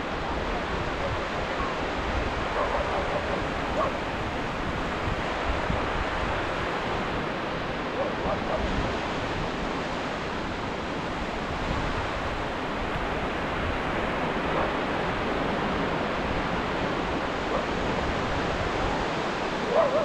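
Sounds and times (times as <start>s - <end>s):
waves breaking: 0.0s - 20.0s.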